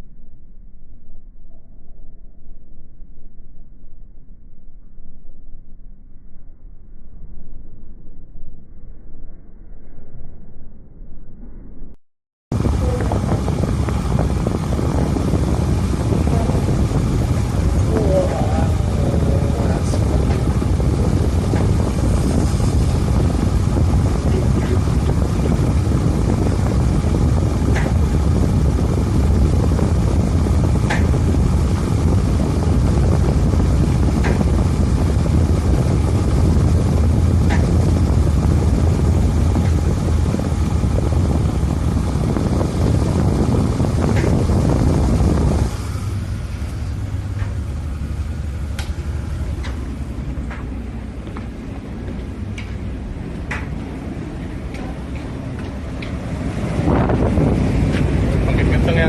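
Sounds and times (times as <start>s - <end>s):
low rumble and rushing noise: 0.0s - 59.0s.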